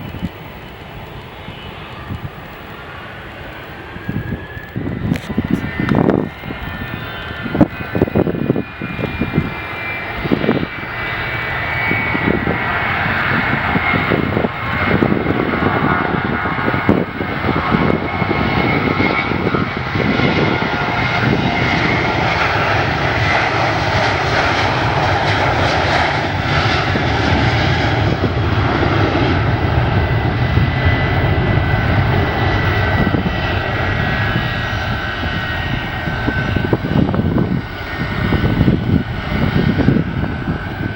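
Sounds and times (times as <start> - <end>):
jet airliner passing: 0.0 - 40.9.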